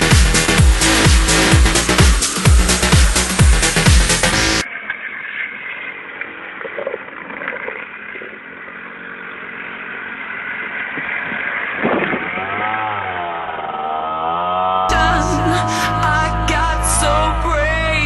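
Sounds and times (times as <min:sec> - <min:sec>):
motorcycle engines running: 0:00.0 - 0:04.6, 0:05.3 - 0:18.0.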